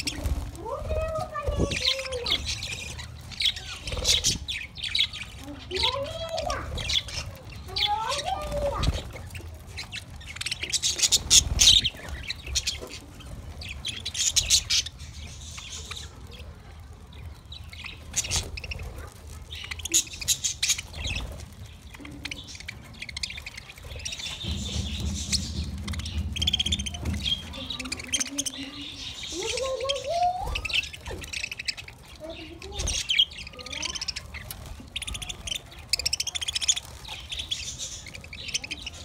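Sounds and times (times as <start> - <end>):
budgerigars chattering: 0.0 - 16.4, 17.5 - 39.0.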